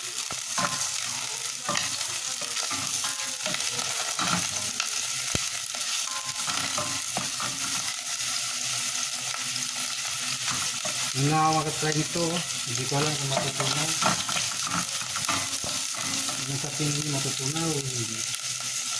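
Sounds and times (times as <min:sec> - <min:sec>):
food sizzling in a pan: 0:00.0 - 0:18.9.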